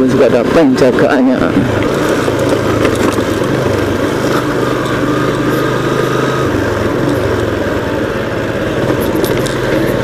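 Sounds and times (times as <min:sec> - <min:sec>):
road rumble: 0:00.0 - 0:10.0
vehicle engine running: 0:00.0 - 0:10.0.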